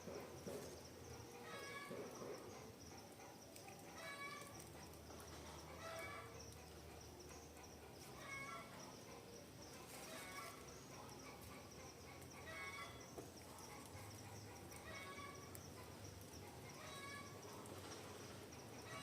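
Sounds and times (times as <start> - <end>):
birds calling: 0.0 - 19.0
faint high chirring: 0.1 - 19.0.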